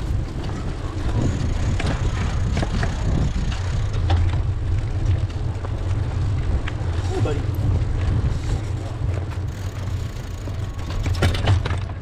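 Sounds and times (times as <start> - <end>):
bicycle tyre noise: 0.0 - 12.0
bike clicks and rattles: 0.0 - 12.0
wind buffeting microphone: 0.0 - 12.0.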